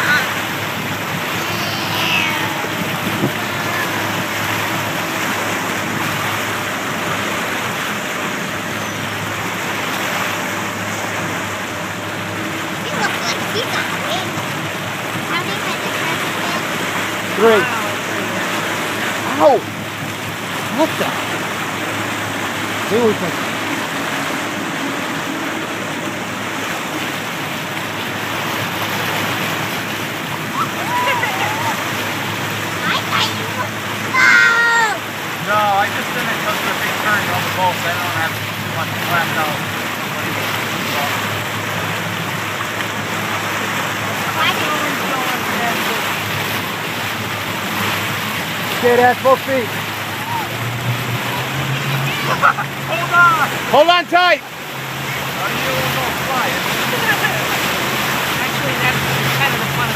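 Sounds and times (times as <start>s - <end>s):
motorboat engine hum: 0.0s - 59.9s
wake water rushing: 0.0s - 59.9s.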